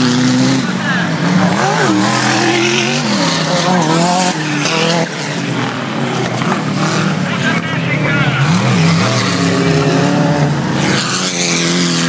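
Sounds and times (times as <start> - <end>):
race vehicle engines revving: 0.0 - 12.0.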